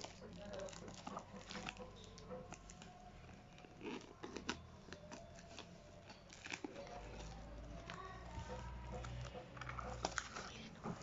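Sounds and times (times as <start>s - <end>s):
packaging clicks: 0.0s - 11.0s
packaging rustling and crinkling: 0.0s - 11.0s.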